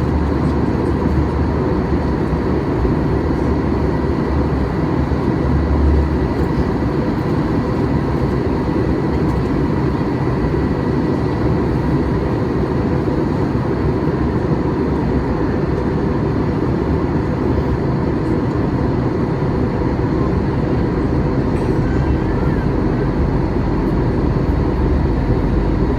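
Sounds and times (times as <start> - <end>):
airplane cabin engine roar: 0.0 - 25.9.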